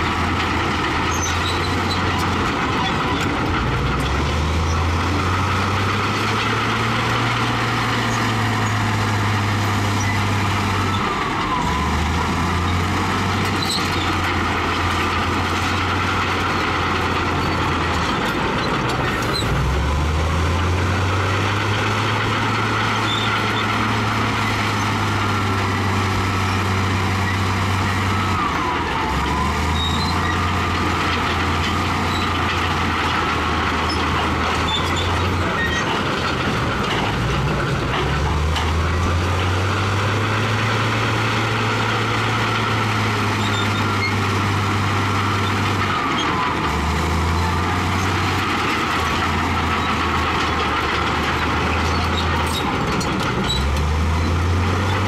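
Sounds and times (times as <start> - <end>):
bulldozer engine running under load: 0.0 - 55.0
machinery clatter: 0.0 - 55.0.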